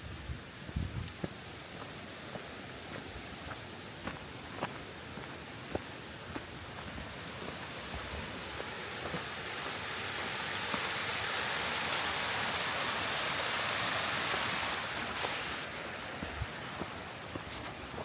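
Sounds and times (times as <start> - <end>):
rushing mountain stream: 0.0 - 18.0.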